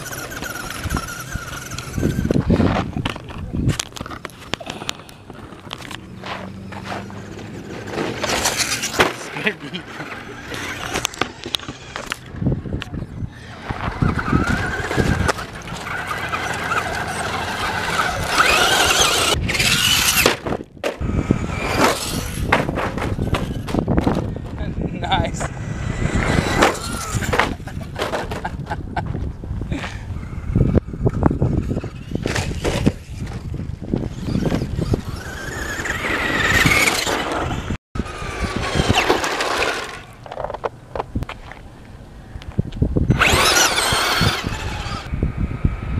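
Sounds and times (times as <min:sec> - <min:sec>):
toy truck motor whining: 0:00.0 - 0:20.3, 0:21.0 - 0:24.0, 0:25.4 - 0:28.5, 0:30.2 - 0:40.2, 0:43.1 - 0:45.1.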